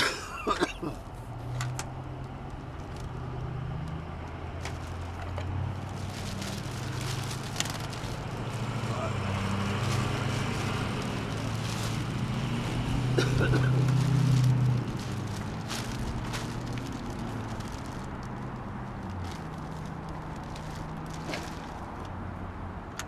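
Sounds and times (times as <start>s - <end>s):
vehicle engine running: 1.1s - 22.2s.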